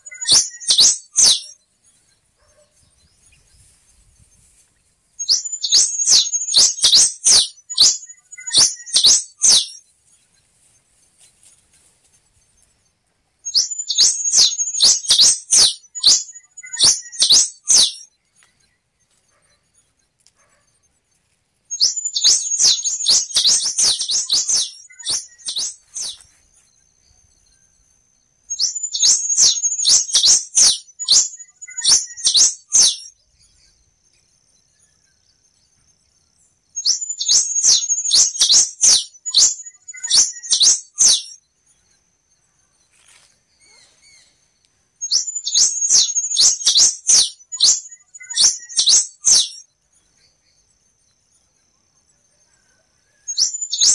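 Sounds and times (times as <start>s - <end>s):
finch twittering song: 0.0s - 4.6s, 5.2s - 10.8s, 13.4s - 20.6s, 21.7s - 42.4s, 43.1s - 51.5s, 52.6s - 53.9s.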